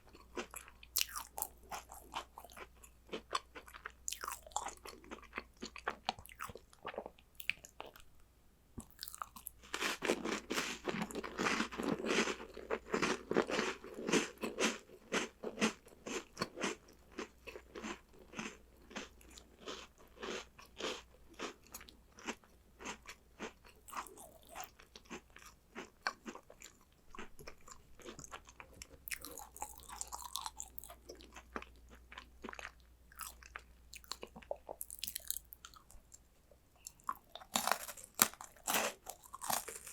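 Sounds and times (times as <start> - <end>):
chewing crunchy snacks: 0.0 - 8.0, 8.8 - 36.2, 36.8 - 39.9.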